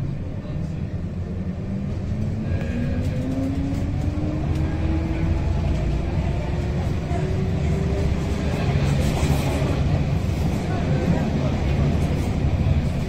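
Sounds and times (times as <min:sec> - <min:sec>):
low rumble of moving vehicle: 0:00.0 - 0:13.0.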